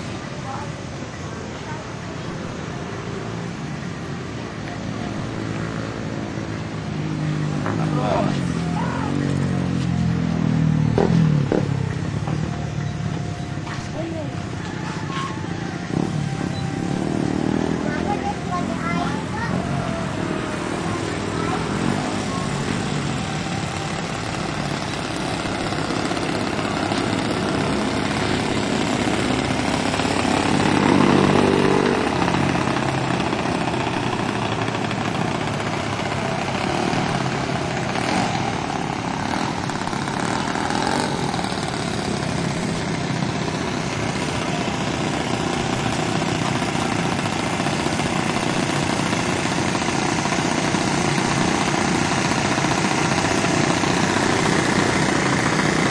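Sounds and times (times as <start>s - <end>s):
model airplane engine idling and revving: 0.0s - 55.9s.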